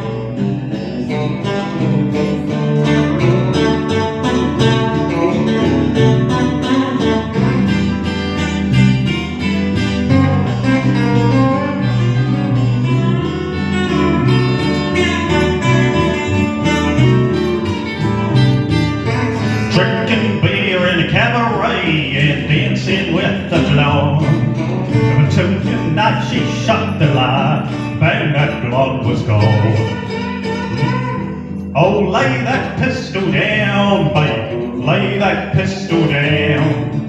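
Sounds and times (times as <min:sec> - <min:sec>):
country band playing: 0:00.0 - 0:37.0
lead guitar: 0:00.0 - 0:37.0.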